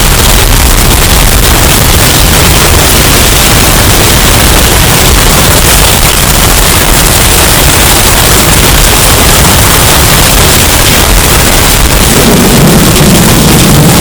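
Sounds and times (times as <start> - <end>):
distorted wind rush: 0.0 - 14.0.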